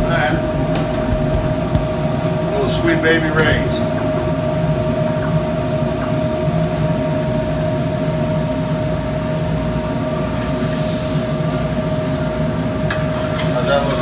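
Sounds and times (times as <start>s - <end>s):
kitchen fans droning: 0.0s - 14.0s.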